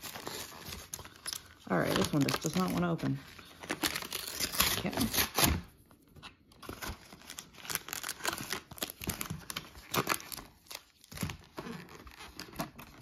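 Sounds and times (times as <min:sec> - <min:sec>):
blister pack tearing and crinkling: 0:00.0 - 0:05.7, 0:06.6 - 0:13.0.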